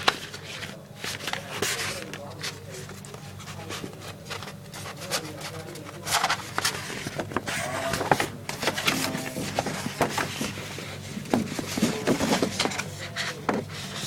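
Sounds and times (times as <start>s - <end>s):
packaging rustling and crinkling: 0.0s - 12.9s
steady low hum: 0.0s - 14.0s.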